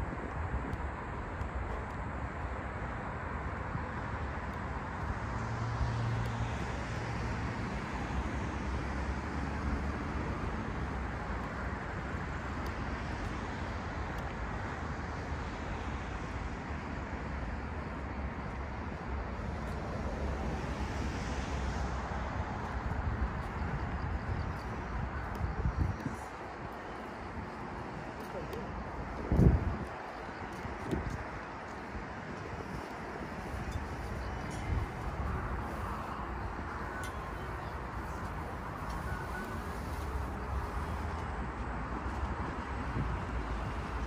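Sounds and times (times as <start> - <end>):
distant road traffic: 0.0 - 44.0.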